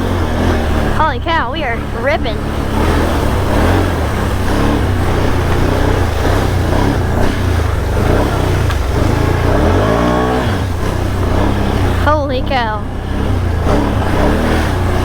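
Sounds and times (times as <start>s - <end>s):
atv engine running hard: 0.0s - 15.0s.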